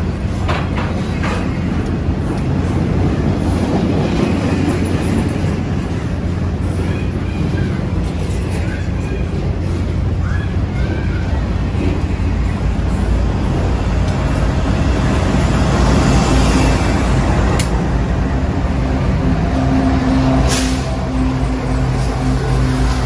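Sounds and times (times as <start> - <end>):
diesel locomotive engine hum: 0.0 - 23.0
train wheels rumbling on rail: 0.0 - 23.0.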